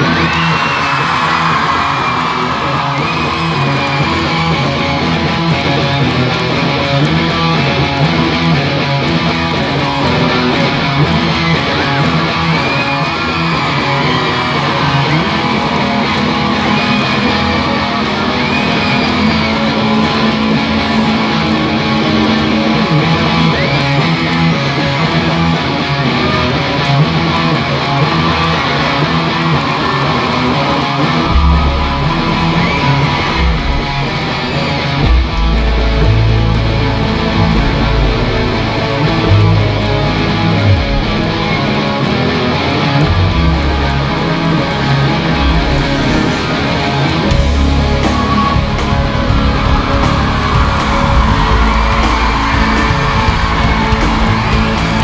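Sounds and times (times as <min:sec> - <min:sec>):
bass guitar: 0:00.0 - 0:55.0
electric guitars strumming: 0:00.0 - 0:55.0.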